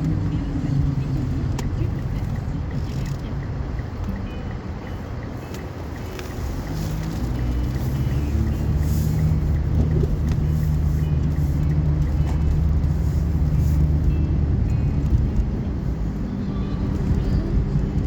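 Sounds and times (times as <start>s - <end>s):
car engine and road hum: 0.0s - 18.0s.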